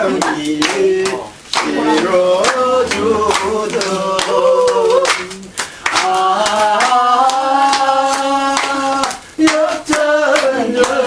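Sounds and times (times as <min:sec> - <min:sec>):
people clapping along: 0:00.0 - 0:11.0
person singing: 0:00.0 - 0:11.0.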